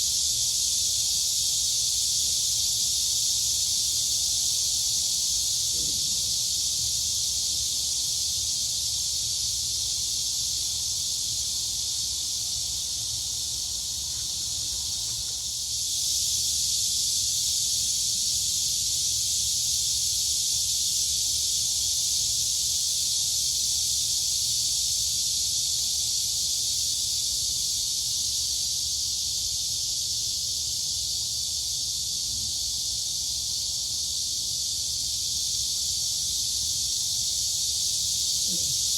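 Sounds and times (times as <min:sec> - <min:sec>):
crickets and cicadas chorus: 0:00.0 - 0:38.9.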